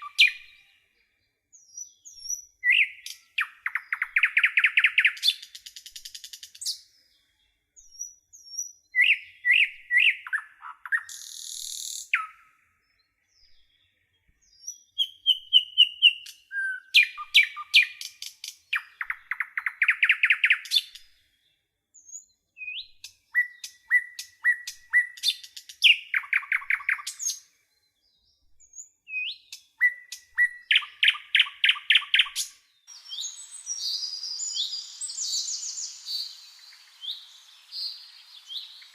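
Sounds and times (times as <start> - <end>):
dense bird chirping: 0.0 - 38.9
songbird singing trills: 0.0 - 38.9.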